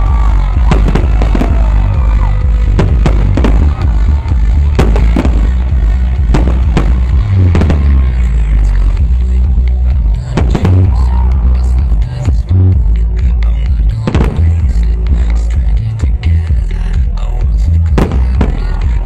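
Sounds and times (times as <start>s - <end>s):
fireworks bursting: 0.0s - 12.5s, 13.9s - 16.0s, 17.9s - 19.0s
loud music with heavy bass: 0.0s - 19.0s.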